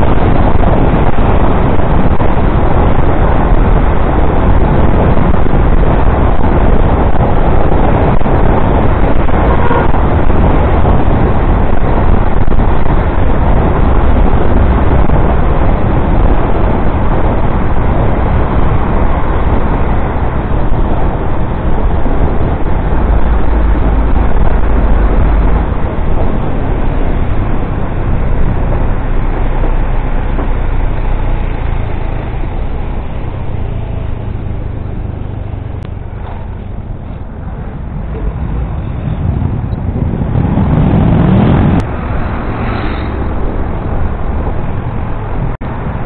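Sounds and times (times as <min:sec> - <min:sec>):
motorcycle engine and road noise: 0:00.0 - 0:46.0
wind rushing on microphone: 0:00.0 - 0:46.0.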